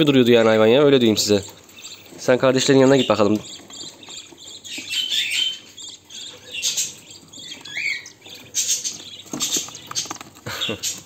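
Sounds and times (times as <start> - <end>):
chicks squeaky chirps: 0.0 - 11.0.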